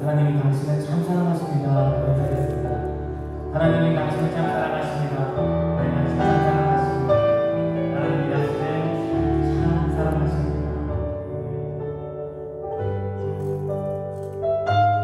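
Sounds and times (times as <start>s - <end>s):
bass notes: 0.0s - 15.0s
sustained keyboard chords: 0.0s - 15.0s.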